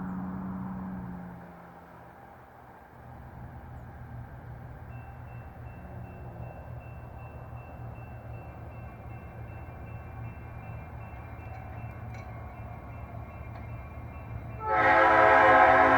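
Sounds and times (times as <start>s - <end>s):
diesel locomotive engine rumbling: 0.0s - 15.9s.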